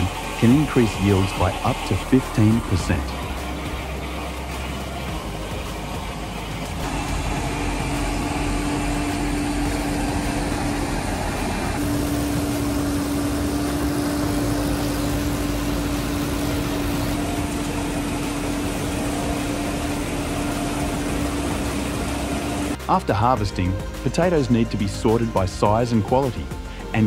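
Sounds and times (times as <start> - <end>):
steady hum: 0.0 - 23.0
harvester engine noise: 0.0 - 23.1.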